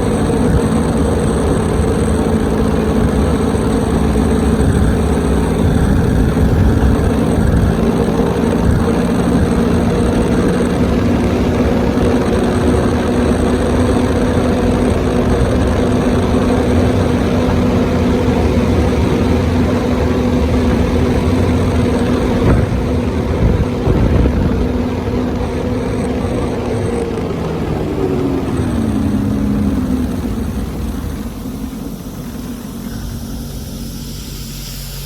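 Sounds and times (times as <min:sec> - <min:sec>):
jet ski engine running: 0:00.0 - 0:35.0.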